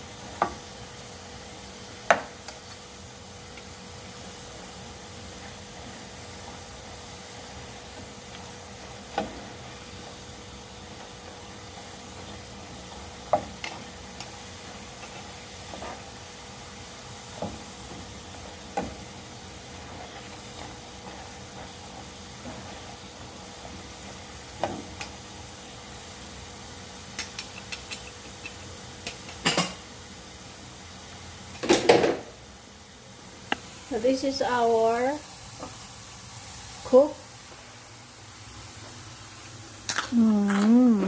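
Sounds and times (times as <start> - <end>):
fries sizzling in hot oil: 0.0 - 41.0.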